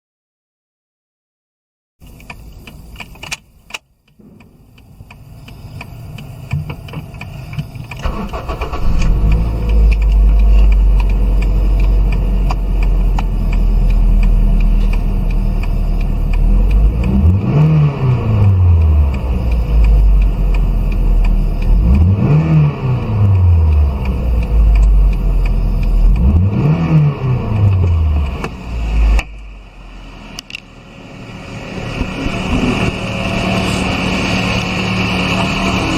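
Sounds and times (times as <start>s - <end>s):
car engine starting: 2.0s - 35.9s
car engine idling: 2.1s - 35.9s
car engine revving: 4.2s - 35.9s.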